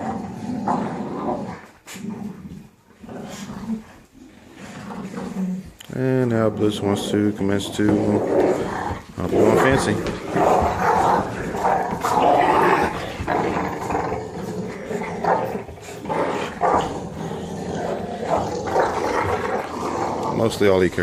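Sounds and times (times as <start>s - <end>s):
puppies growling: 0.0s - 21.0s.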